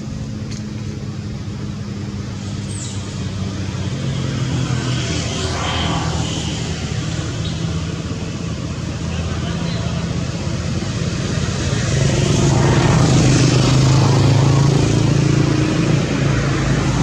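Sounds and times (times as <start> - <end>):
road noise: 0.0 - 17.0
vehicle engine running: 0.0 - 17.0
vehicle passing: 1.8 - 17.0.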